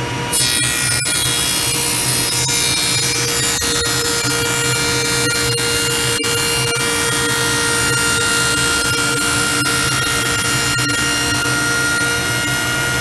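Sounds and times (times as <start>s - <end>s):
table saw cutting wood: 0.3s - 13.0s.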